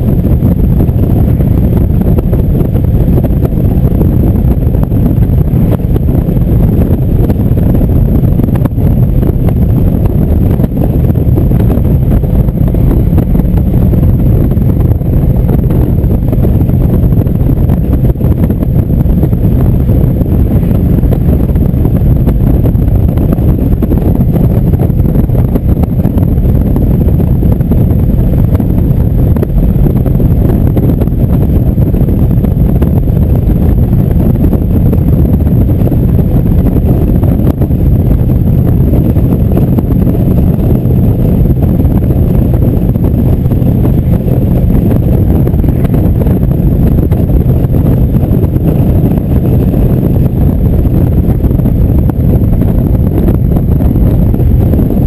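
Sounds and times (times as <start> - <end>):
motorcycle engine rumble: 0.0 - 55.0
wind on microphone: 0.0 - 55.0.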